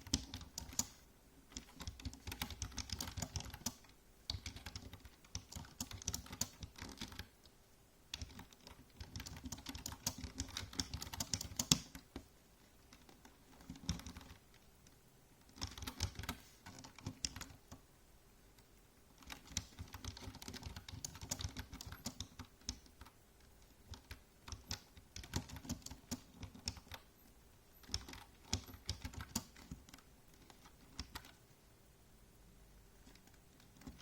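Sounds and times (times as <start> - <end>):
computer keyboard typing: 0.0 - 7.4, 8.1 - 12.3, 12.9 - 14.6, 15.5 - 17.8, 19.2 - 27.1, 27.8 - 31.4, 33.0 - 34.0.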